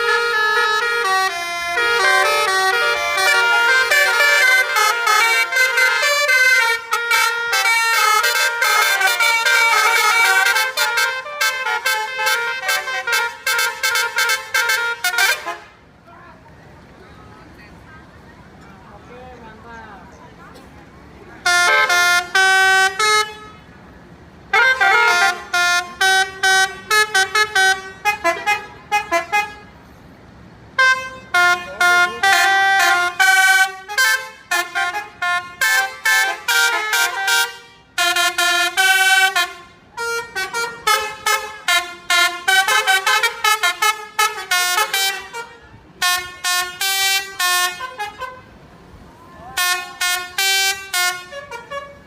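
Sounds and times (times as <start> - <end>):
bus air horns playing tunes: 0.0 - 15.9, 21.4 - 52.0.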